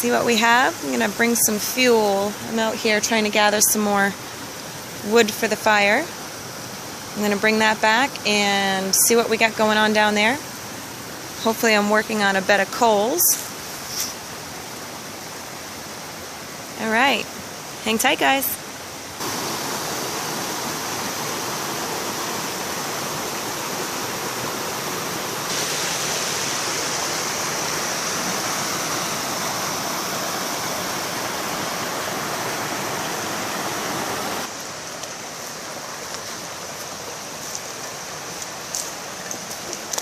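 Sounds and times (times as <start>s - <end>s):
river water rushing: 0.0s - 8.3s, 12.4s - 40.0s.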